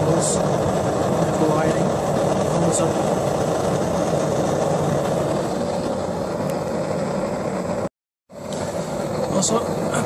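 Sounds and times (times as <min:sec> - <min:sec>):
gas burner flame rushing: 0:00.0 - 0:10.0.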